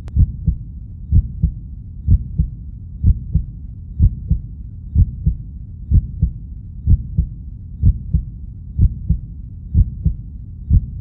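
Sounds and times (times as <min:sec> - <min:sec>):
heartbeat thumps: 0:00.0 - 0:11.0
low steady rumble: 0:00.0 - 0:11.0.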